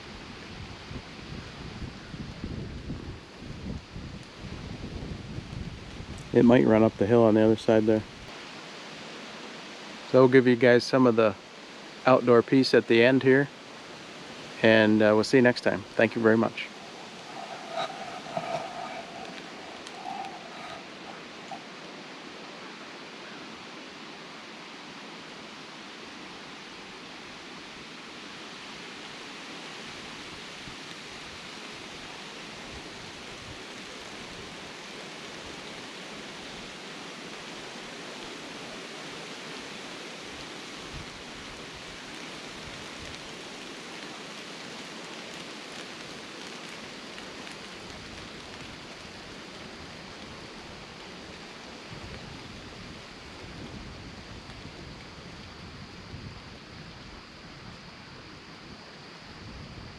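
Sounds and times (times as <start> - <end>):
woodland rushing hiss: 0.0 - 59.9.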